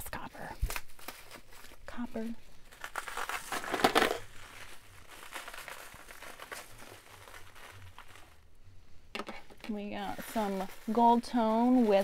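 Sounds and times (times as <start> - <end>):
jewelry rustling: 0.4 - 12.0.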